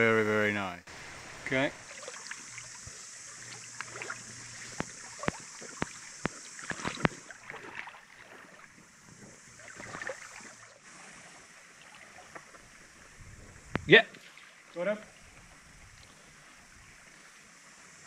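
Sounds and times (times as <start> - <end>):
muffled underwater water movement: 0.9 - 18.0.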